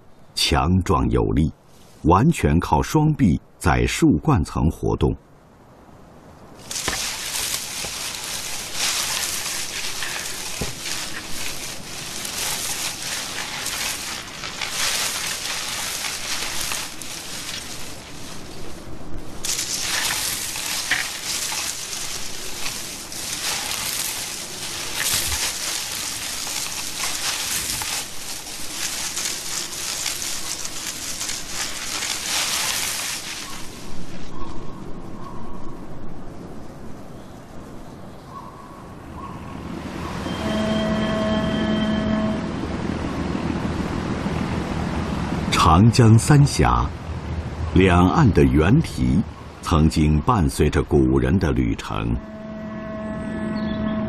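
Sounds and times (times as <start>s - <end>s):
leaves and branches rustling: 0.0s - 53.9s.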